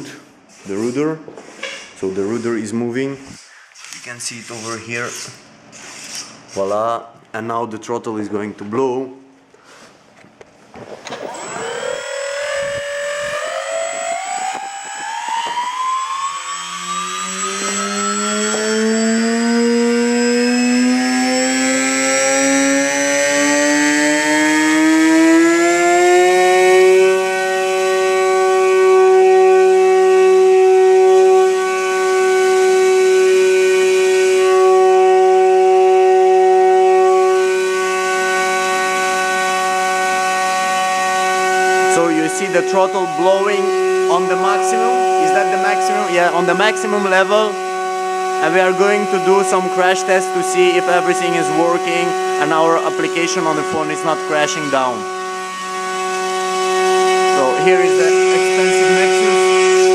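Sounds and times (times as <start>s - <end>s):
electric motor propeller whine: 11.0s - 59.9s.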